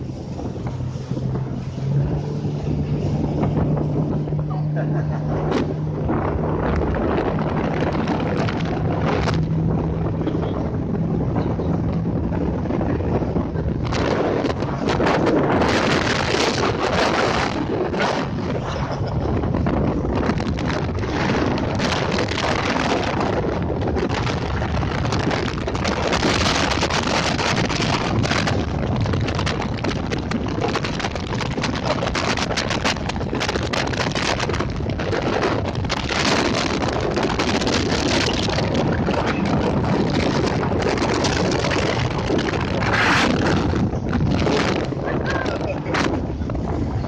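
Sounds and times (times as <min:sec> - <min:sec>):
motor boat engine running: 0:00.0 - 0:47.0
wind buffeting microphone: 0:00.0 - 0:47.0.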